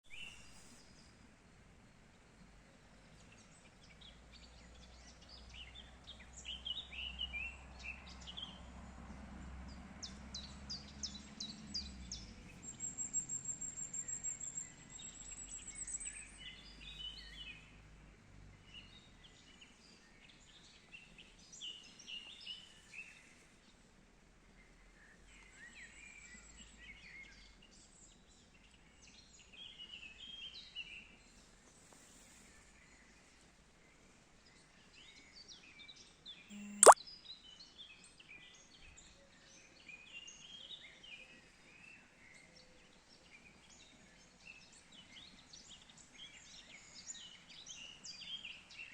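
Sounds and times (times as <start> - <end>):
faint outdoor background noise: 0.0 - 48.9.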